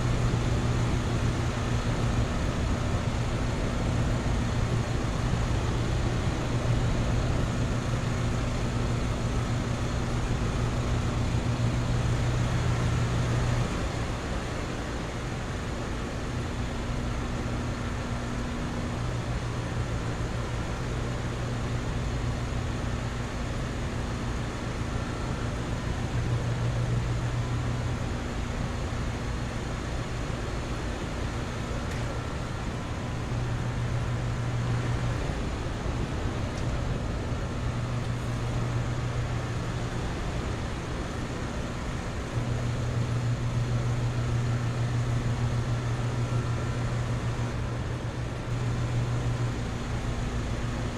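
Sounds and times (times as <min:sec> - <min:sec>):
compressor hum: 0:00.0 - 0:50.9
condenser fans rushing: 0:00.0 - 0:50.9.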